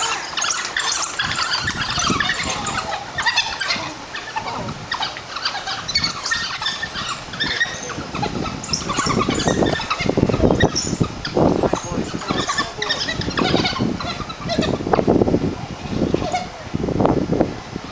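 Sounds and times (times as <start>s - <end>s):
wild dogs squealing and chirping: 0.0s - 16.8s.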